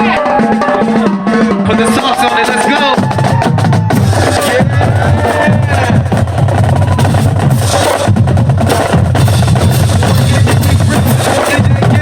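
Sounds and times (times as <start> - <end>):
bass drums: 0.0 - 12.0
snare drum strokes and rolls: 0.0 - 12.0.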